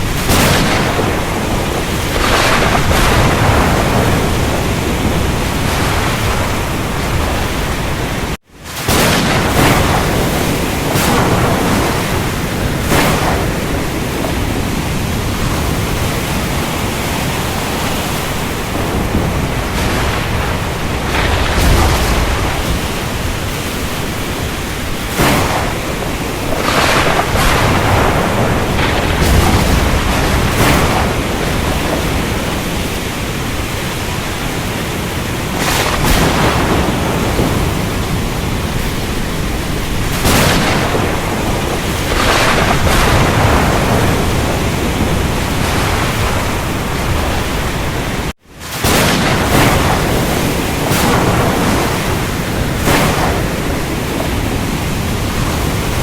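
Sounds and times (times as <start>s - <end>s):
rain and surf rushing: 0.0s - 56.0s
sharp thunder cracks: 0.0s - 56.0s
thunder rumbling: 0.0s - 56.0s.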